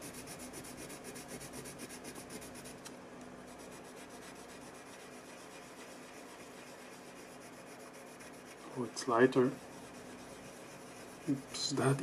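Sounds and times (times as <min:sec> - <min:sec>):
colored pencil scratching on paper: 0:00.0 - 0:02.8, 0:03.5 - 0:12.0
faint room hum: 0:00.0 - 0:12.0.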